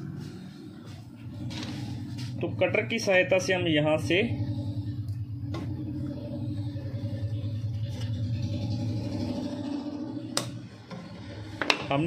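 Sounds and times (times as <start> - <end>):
low rumbling hum: 0.0 - 12.0.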